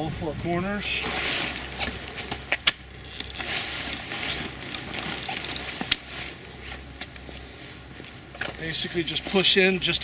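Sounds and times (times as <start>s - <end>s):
rustling handling noise: 0.7s - 10.0s.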